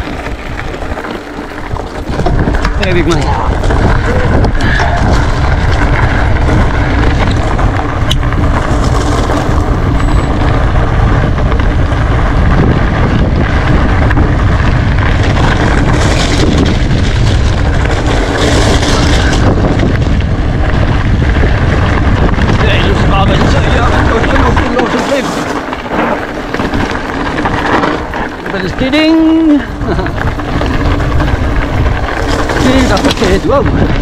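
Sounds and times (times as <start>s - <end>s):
bike tyres rolling on gravel: 0.0s - 34.0s
wind buffeting microphone: 0.0s - 34.0s.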